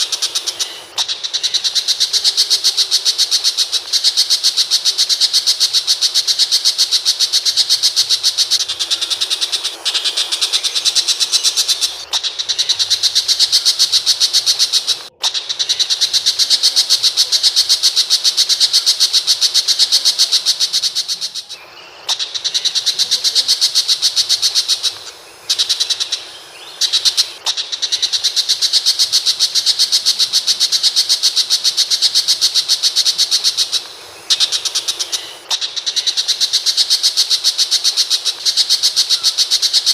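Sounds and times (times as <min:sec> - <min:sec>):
bird chattering: 0:00.0 - 0:39.9.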